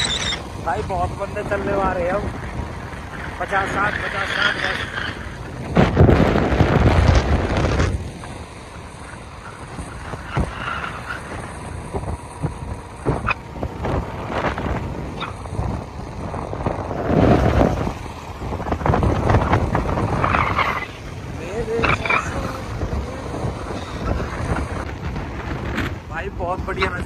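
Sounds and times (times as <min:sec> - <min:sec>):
wind buffeting microphone: 0:00.0 - 0:27.0
motorcycle engine running: 0:05.0 - 0:27.0.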